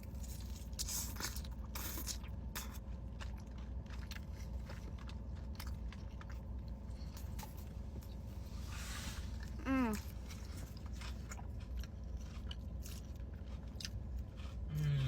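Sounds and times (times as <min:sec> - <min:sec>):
chewing crunches: 0:00.0 - 0:08.2, 0:09.4 - 0:15.0
steady low hum: 0:00.0 - 0:15.0.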